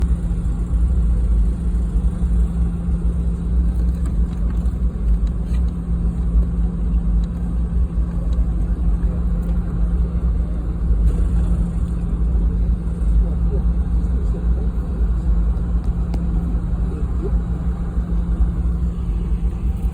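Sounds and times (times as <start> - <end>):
airliner cabin rumble: 0.0 - 19.9
steady hum: 0.0 - 19.9.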